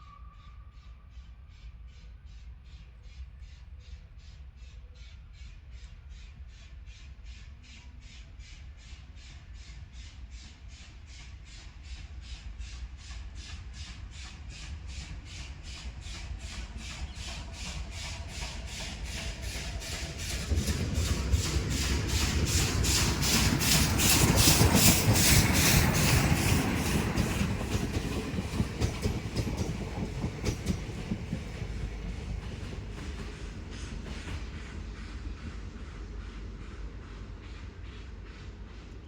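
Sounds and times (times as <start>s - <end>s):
steam locomotive chuffing: 1.0s - 39.0s.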